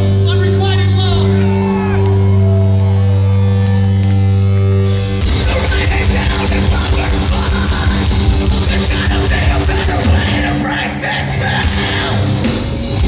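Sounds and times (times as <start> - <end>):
heavy rock band playing: 1.2 - 13.0.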